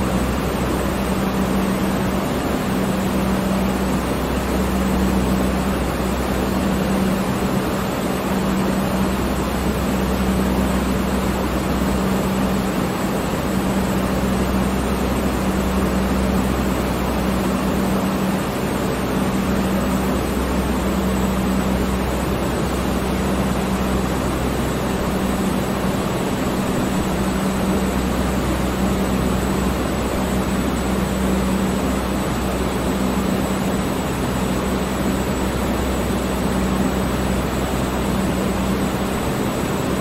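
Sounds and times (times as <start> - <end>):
electric fan air rush: 0.0 - 40.0
low motor hum: 0.0 - 40.0.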